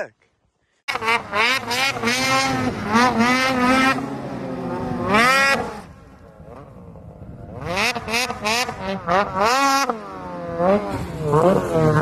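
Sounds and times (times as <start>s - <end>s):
snowmobile engine revving: 0.9s - 12.0s.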